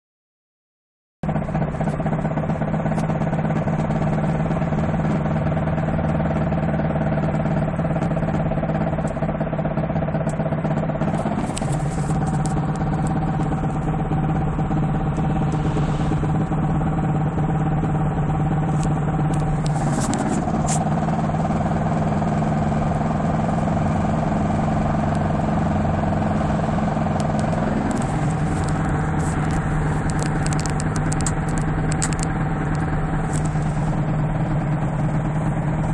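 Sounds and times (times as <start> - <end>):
car running with steady hum: 1.2 - 35.9.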